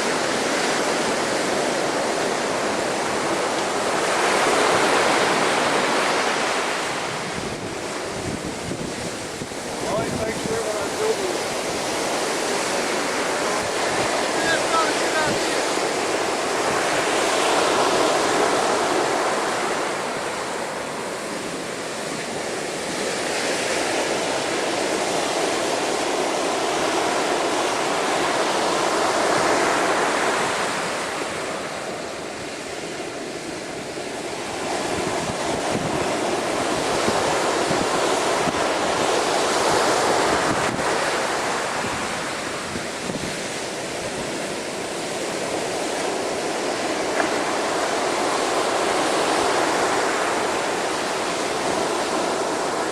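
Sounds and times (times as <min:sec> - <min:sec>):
waves surging against sea wall: 0:00.0 - 0:52.9
wind buffeting microphone: 0:00.1 - 0:52.9.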